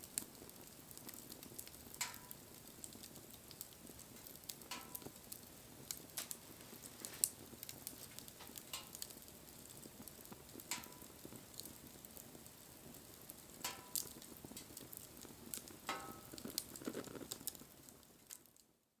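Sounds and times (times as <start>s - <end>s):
bonfire crackling and popping: 0.0s - 18.9s
soft steady hiss: 0.0s - 19.0s.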